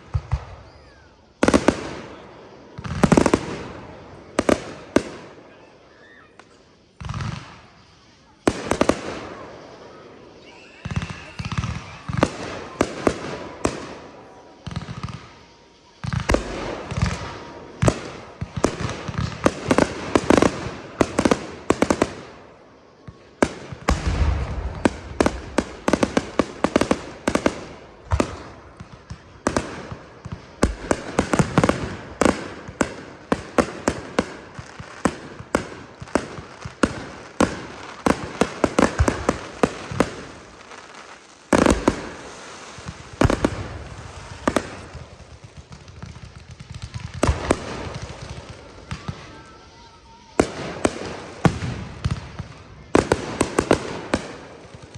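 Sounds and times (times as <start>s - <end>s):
fireworks exploding: 0.0s - 54.9s.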